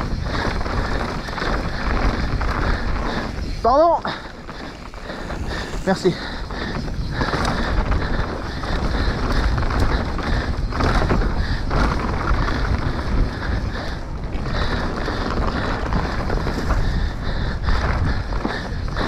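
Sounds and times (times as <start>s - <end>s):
rumbling rush of bike tyres: 0.0s - 19.0s
wind buffeting microphone: 0.0s - 19.0s.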